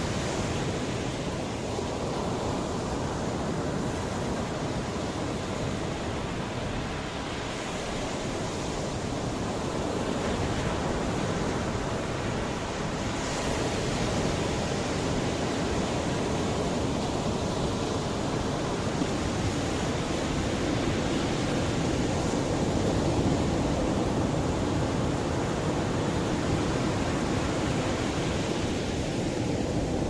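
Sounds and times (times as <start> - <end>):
sea waves washing on shore: 0.0 - 30.0.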